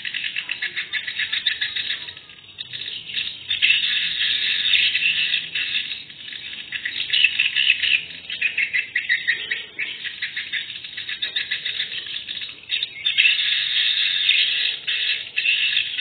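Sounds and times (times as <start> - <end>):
swiftlets twittering: 0.0 - 16.0.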